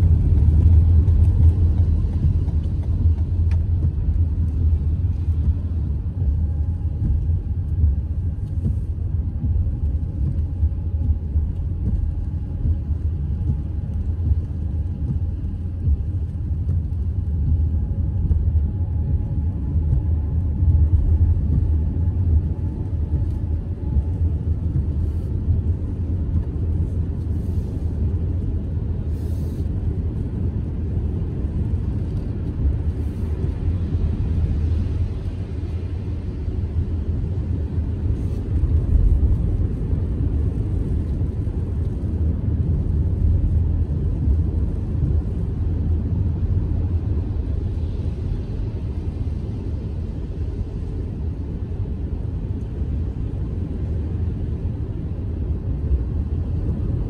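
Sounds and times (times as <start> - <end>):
road rumble inside car: 0.0 - 57.0.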